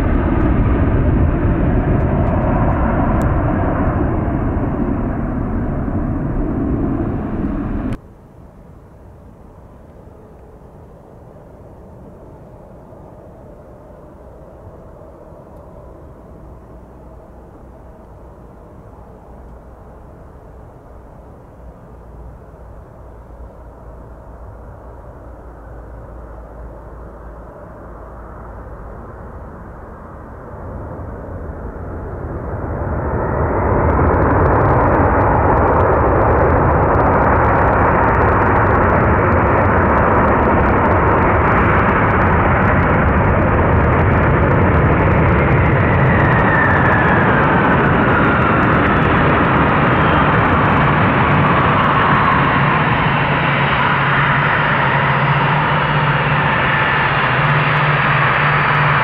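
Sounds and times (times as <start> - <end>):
jet engines roaring: 0.0 - 8.0, 10.0 - 59.0
jet engine whine falling: 0.0 - 59.0.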